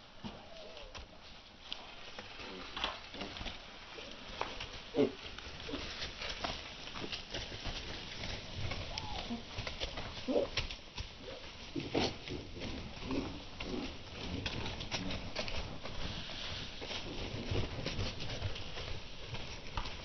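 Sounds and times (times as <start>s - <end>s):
wing-flap rustles: 0.0s - 20.0s
scratching clicks in straw: 0.2s - 20.0s.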